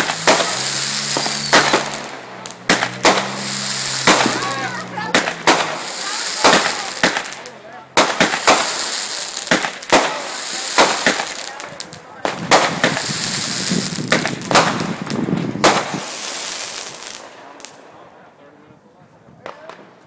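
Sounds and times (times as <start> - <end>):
crackling firework hiss: 0.0 - 17.9
firework bangs: 0.0 - 18.0.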